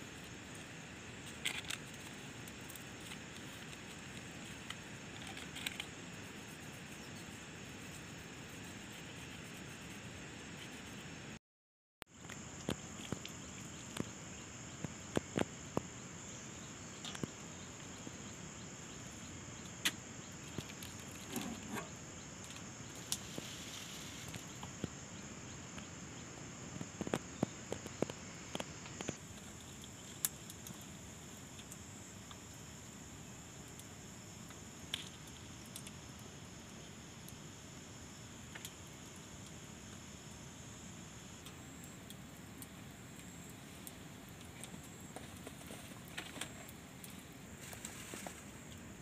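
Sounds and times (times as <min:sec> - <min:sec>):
insects chirring: 0:00.0 - 0:11.4, 0:12.1 - 0:49.0.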